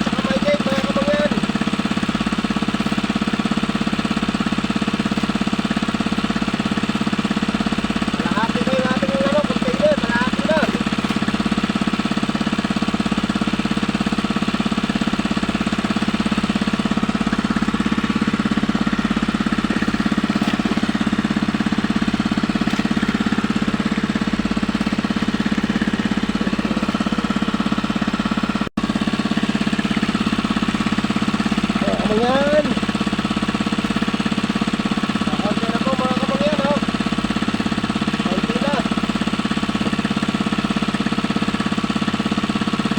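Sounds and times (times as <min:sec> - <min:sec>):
small engine knocking: 0:00.0 - 0:42.9.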